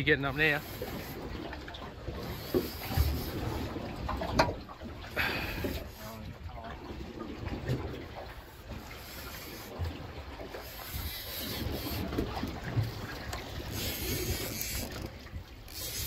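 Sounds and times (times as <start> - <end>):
water sloshing against boat: 0.0 - 16.0.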